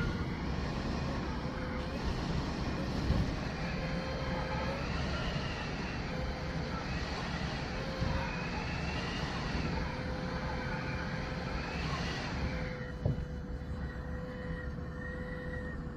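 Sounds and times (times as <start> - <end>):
faint wind whistling: 0.0 - 15.9
strong gusting wind: 0.0 - 15.9.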